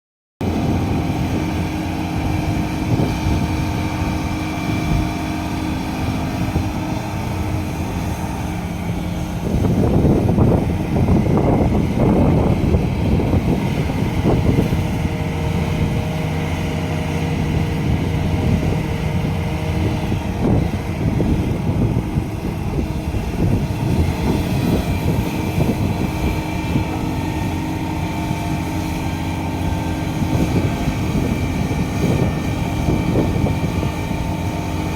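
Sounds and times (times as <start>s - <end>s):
heavy diesel machinery engine hum: 0.4s - 34.9s.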